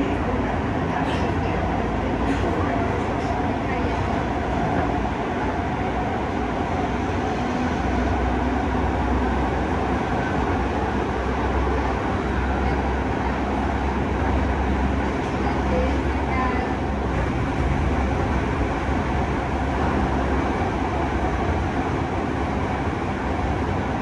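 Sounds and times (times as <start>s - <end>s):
subway train wheels rumbling on rails: 0.0s - 24.0s.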